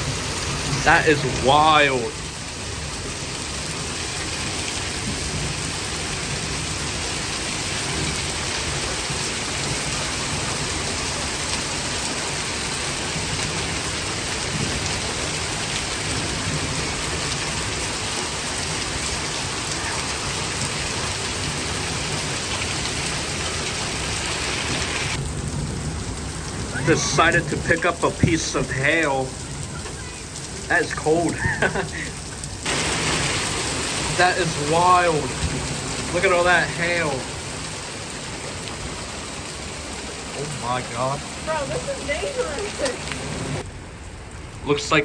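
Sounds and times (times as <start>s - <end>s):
heavy rain and hail: 0.0s - 45.0s
thunder rumbling: 0.0s - 45.0s.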